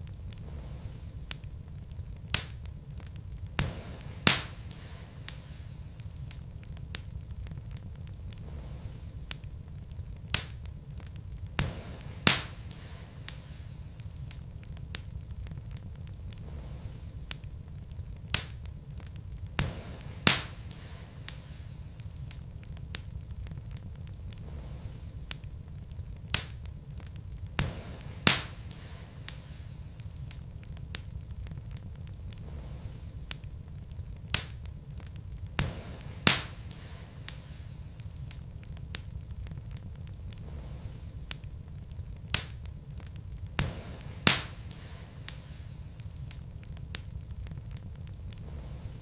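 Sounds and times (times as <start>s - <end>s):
fire rumbling: 0.0s - 49.0s
wood fire crackling and popping: 0.0s - 49.0s.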